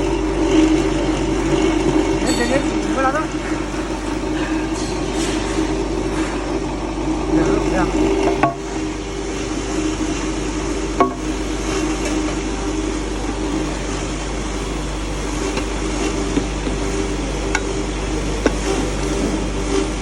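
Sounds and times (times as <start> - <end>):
feed grinder humming with hiss: 0.0 - 20.0.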